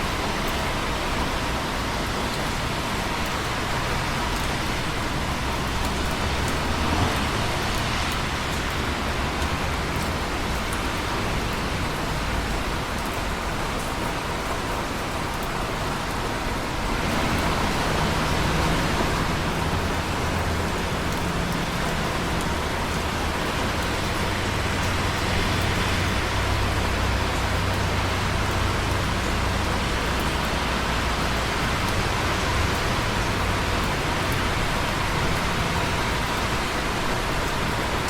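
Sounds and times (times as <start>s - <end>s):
heavy rain falling: 0.0s - 38.0s
raindrop ticks: 0.0s - 38.0s.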